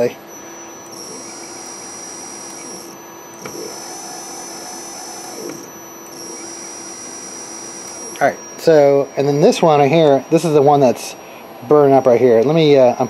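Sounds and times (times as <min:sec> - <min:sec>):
stepper motor whining: 0:00.0 - 0:10.8.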